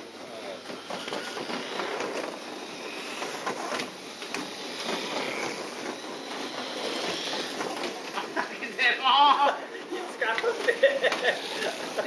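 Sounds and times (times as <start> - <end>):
small electric motors whirring: 0.0 - 9.5, 10.1 - 12.0
tyres rushing: 0.0 - 12.0.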